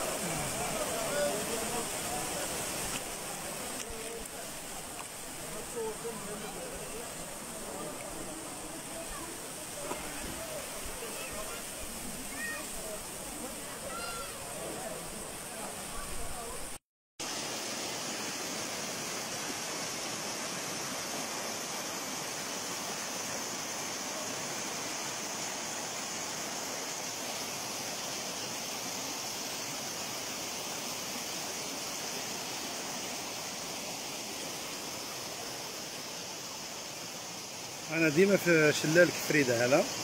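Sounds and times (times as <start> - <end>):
waterfall pouring over rocks: 0.0 - 40.0.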